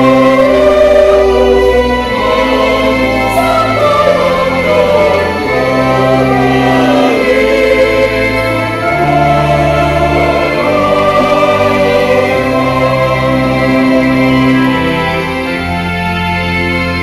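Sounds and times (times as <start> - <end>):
choir singing in parts: 0.0 - 17.0.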